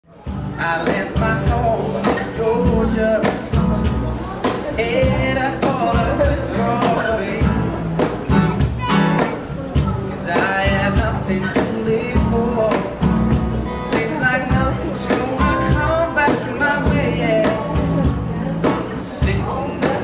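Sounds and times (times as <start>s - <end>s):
acoustic guitar: 0.0s - 20.0s
upright double bass: 0.0s - 20.0s
cajon beat: 0.1s - 20.0s.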